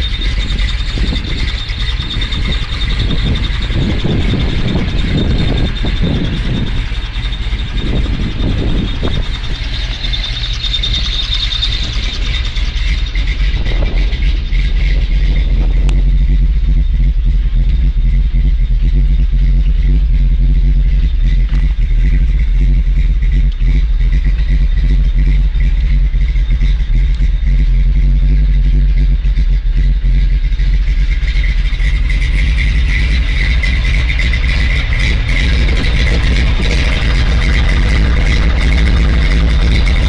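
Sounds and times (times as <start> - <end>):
engine deep rumble: 0.0 - 40.0.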